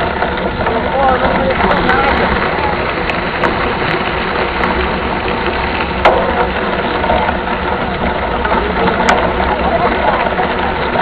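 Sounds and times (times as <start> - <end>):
mountain bike riding noise: 0.0 - 11.0.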